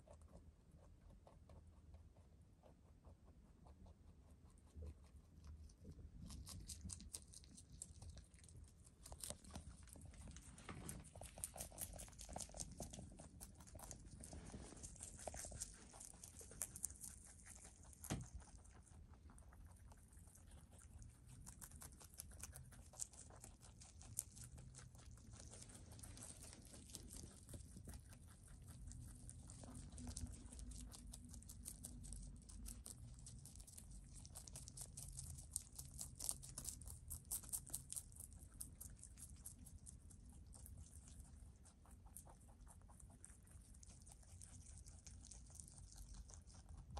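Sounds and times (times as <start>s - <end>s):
rabbits chewing leafy greens: 0.0s - 46.9s.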